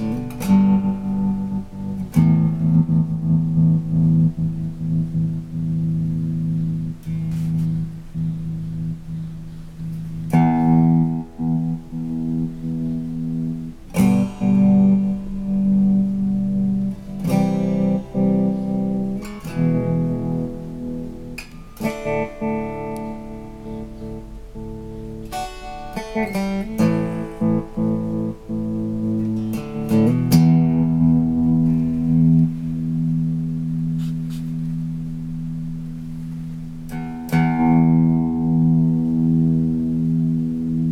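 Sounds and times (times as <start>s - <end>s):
guitar chords with stuttering tremolo: 0.0s - 40.9s.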